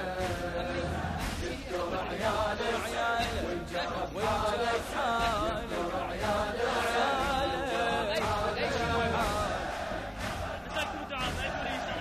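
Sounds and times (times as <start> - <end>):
person chanting a lament: 0.0 - 12.0.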